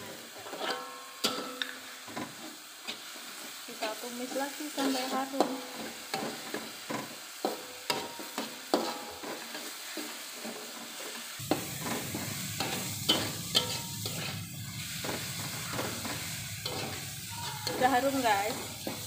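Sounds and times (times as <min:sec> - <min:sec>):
metal spatula scraping wok: 0:00.0 - 0:19.0
paste sizzling in hot oil: 0:00.0 - 0:19.0.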